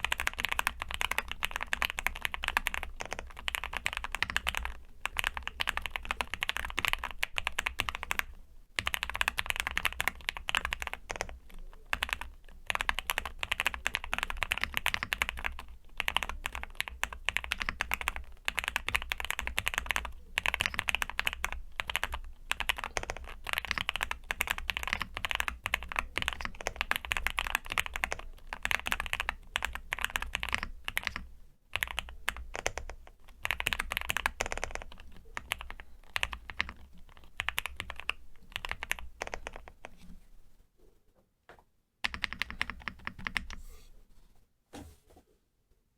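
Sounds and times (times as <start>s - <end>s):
mechanical keyboard typing: 0.0s - 40.0s, 42.0s - 43.6s.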